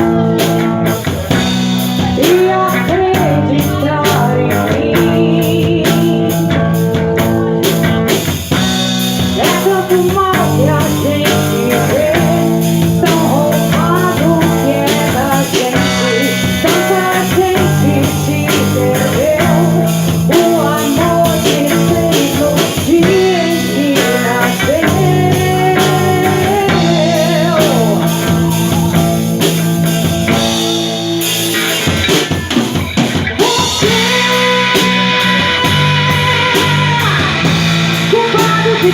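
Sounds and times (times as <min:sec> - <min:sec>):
person singing: 0:00.0 - 0:08.6, 0:09.2 - 0:38.9
drum kit: 0:00.0 - 0:38.9
electric guitar: 0:00.0 - 0:38.9.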